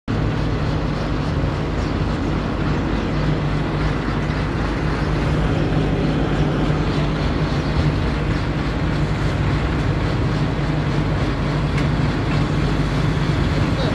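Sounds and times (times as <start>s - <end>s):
vehicle engine running: 0.1s - 13.9s.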